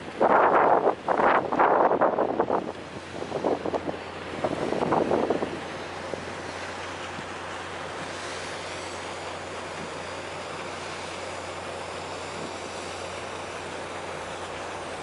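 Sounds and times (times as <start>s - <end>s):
ship engines humming: 0.0s - 15.0s
water rushing: 0.0s - 15.0s
wind: 0.0s - 15.0s.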